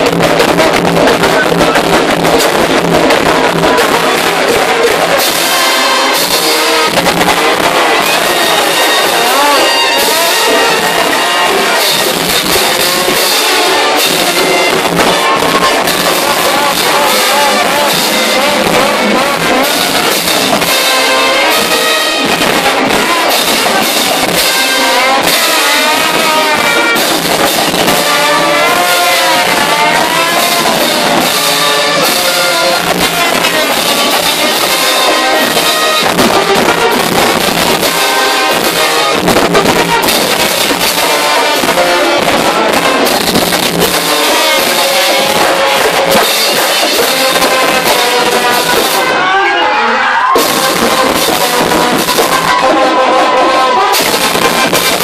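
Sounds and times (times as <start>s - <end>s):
brass marching band playing: 0.0s - 55.0s
drum beats: 0.0s - 55.0s.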